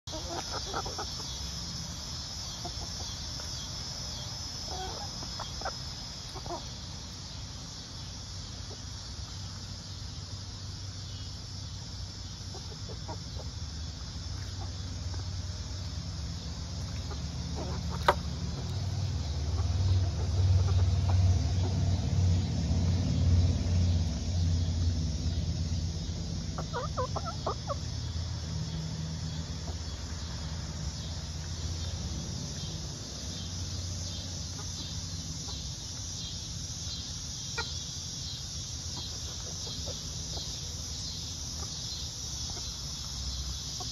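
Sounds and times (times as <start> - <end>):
chickens clucking: 0.1 - 22.4, 26.3 - 28.8, 32.5 - 43.9.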